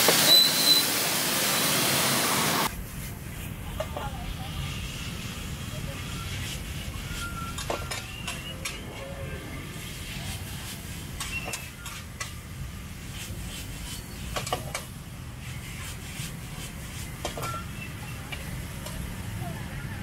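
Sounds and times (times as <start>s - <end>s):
traffic rumble: 1.2s - 20.0s.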